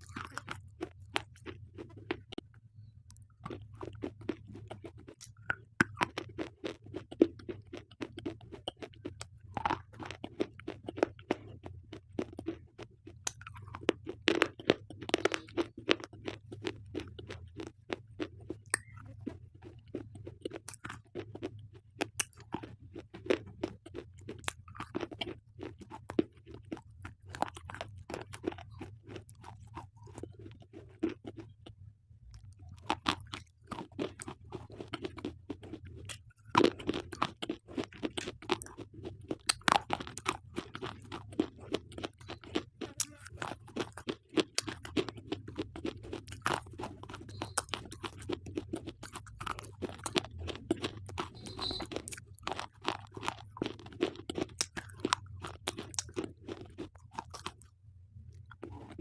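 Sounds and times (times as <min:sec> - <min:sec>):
slate pencils crunching when bitten: 0:00.0 - 0:02.5, 0:03.4 - 0:31.5, 0:32.4 - 0:57.7.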